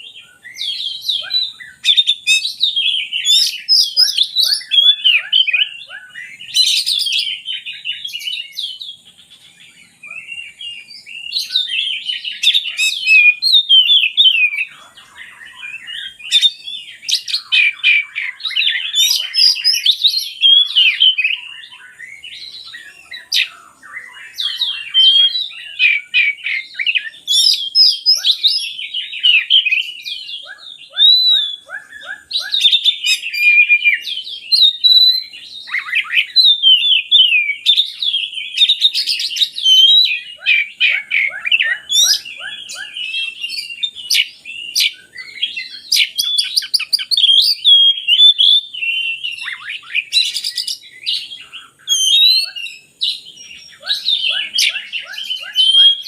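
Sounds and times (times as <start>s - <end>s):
bird singing whistled trills: 0.0s - 56.0s.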